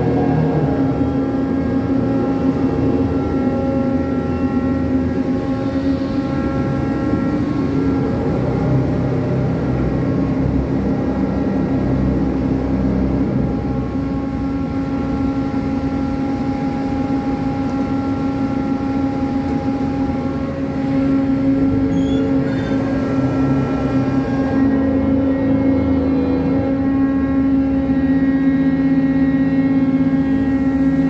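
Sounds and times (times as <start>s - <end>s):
crane machinery drone: 0.0s - 31.0s.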